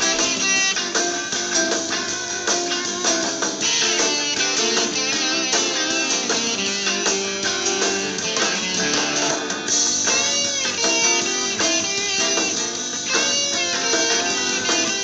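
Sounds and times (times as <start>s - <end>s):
bluesy electric guitar: 0.0s - 15.0s.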